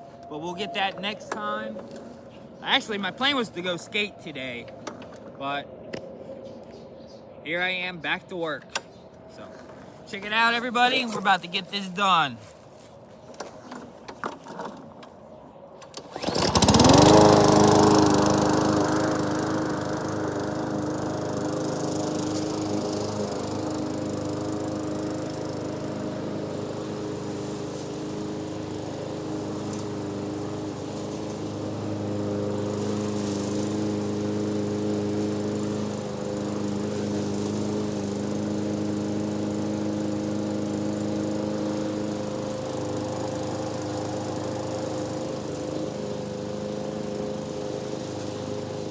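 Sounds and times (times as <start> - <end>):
lawnmower engine running: 0.1 - 4.1, 9.4 - 48.9.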